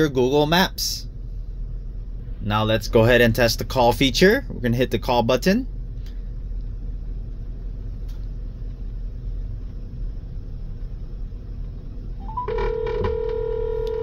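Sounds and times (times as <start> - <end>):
low rumble in car cabin: 0.0 - 14.0.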